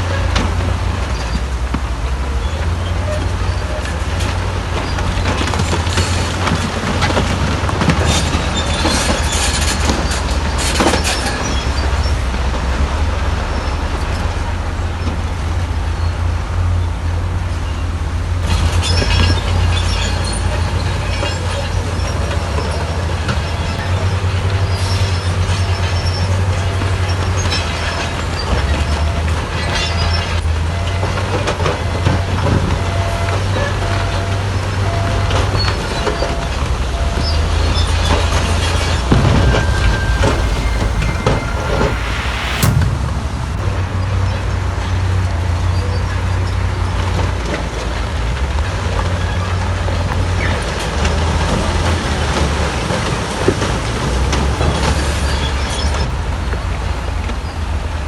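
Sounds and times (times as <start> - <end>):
steel tracks clanking and squealing: 0.0 - 47.0.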